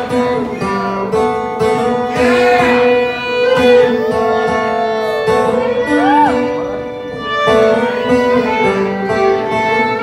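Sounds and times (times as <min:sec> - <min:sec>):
acoustic guitar: 0:00.0 - 0:10.0.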